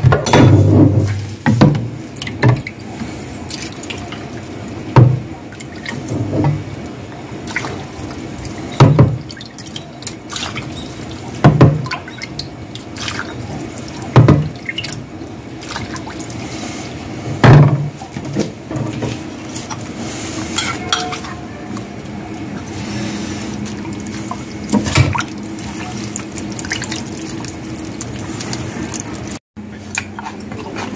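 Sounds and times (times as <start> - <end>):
liquid splashing and dribbling: 0.3 - 30.9.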